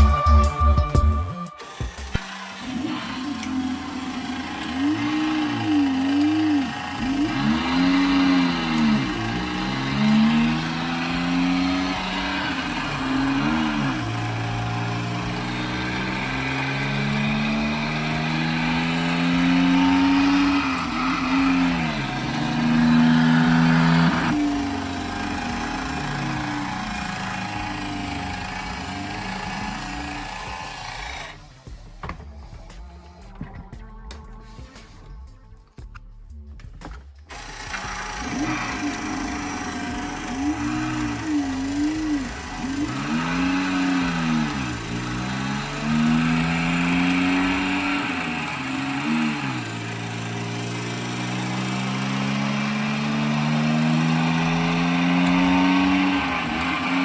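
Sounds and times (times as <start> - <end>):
simulated engine revving: 0.0 - 32.8, 37.3 - 57.0
steady mechanical whir: 1.4 - 33.3, 36.8 - 57.0.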